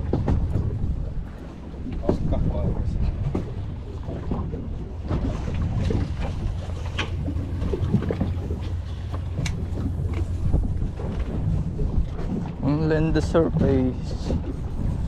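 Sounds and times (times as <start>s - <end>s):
boat engine rumble: 0.0s - 15.0s
water splashing against hull: 0.0s - 15.0s.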